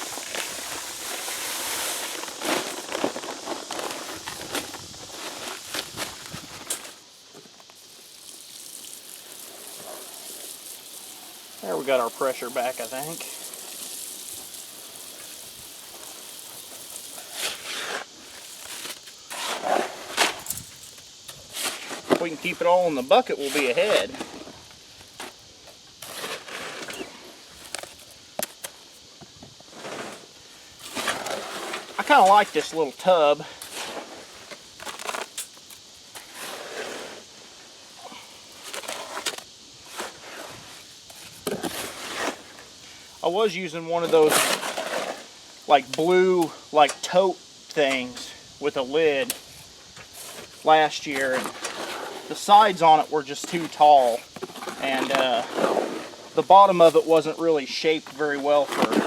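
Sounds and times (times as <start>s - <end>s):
hose spraying into plastic tub: 0.0s - 28.8s, 29.6s - 59.0s.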